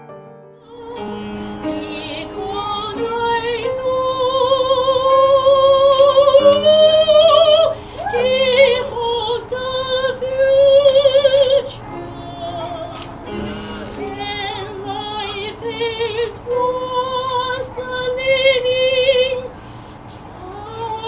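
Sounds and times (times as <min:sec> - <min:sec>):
piano accompaniment: 0:00.0 - 0:21.0
woman singing with vibrato: 0:00.7 - 0:19.6, 0:20.3 - 0:21.0.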